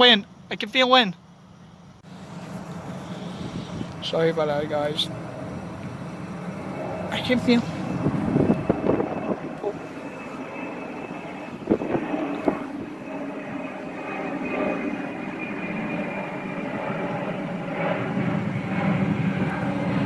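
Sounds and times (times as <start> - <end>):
gusting wind: 1.2 - 20.0.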